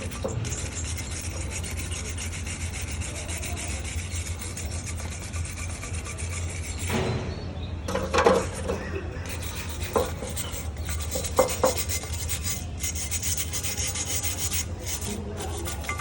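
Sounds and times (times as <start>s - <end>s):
tool scraping metal: 0.0s - 16.0s.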